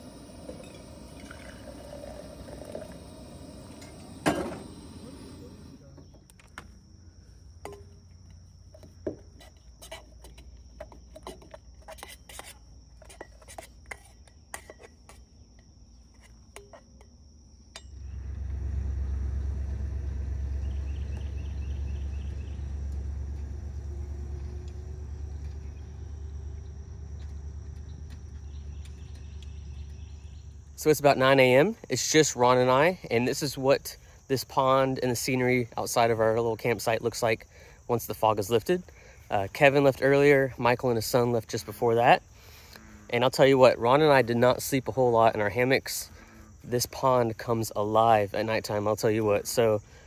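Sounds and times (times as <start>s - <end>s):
high insect drone: 0.0s - 50.0s.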